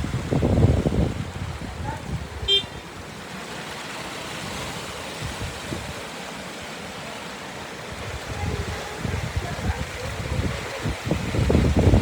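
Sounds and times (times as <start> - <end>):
wind buffeting microphone: 0.0 - 3.4, 4.4 - 6.4, 7.6 - 12.0.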